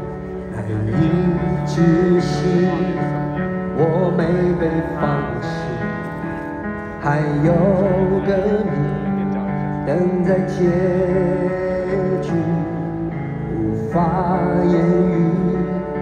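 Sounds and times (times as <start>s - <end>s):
man singing with vibrato: 0.0s - 16.0s.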